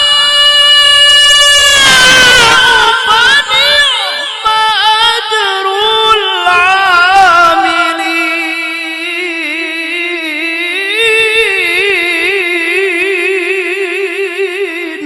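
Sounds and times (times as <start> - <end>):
man reciting a long melismatic note: 0.0 - 15.0.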